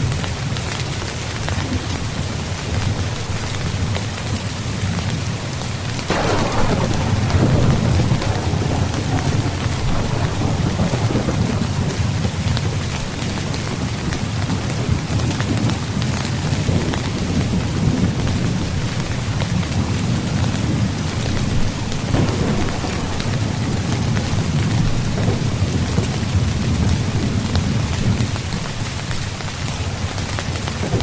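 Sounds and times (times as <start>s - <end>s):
heavy rain drumming on tent: 0.0s - 31.0s.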